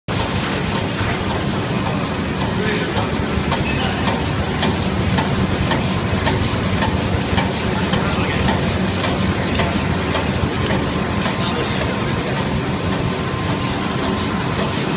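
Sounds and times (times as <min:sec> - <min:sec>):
laminating machine humming: 0:00.1 - 0:14.9.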